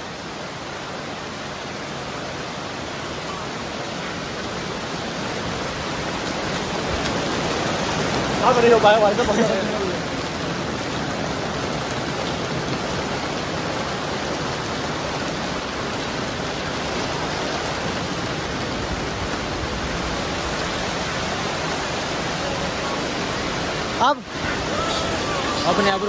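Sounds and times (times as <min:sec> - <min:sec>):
heavy rain on pavement: 0:00.0 - 0:26.0.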